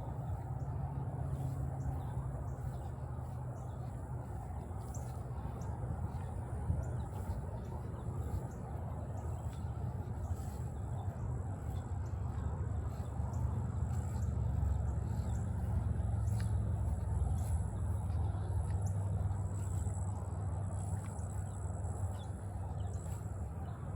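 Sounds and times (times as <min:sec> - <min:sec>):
steady low rumble: 0:00.0 - 0:23.9.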